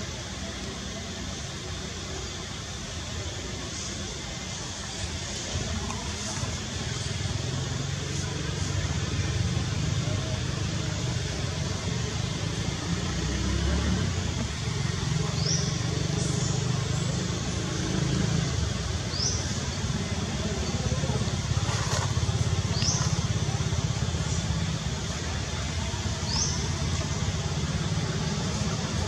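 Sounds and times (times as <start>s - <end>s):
constant hiss: 0.0s - 29.0s
outdoor background rumble: 0.0s - 29.0s.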